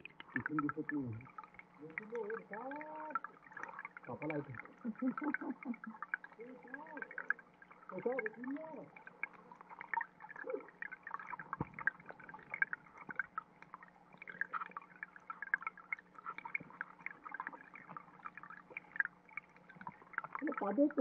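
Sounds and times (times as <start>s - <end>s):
low steady hum: 0.0s - 21.0s
underwater stream trickling: 0.0s - 21.0s.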